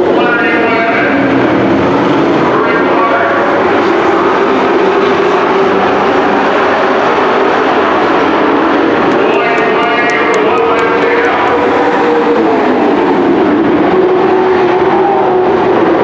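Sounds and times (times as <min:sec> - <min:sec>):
race truck engines droning: 0:00.0 - 0:16.0.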